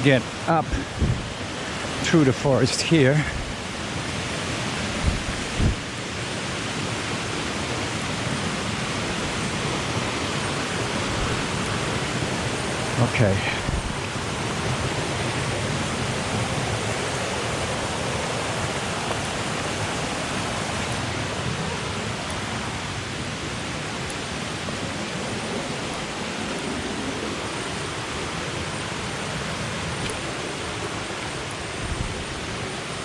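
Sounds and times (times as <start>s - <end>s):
river and waterfall rushing: 0.0s - 33.0s.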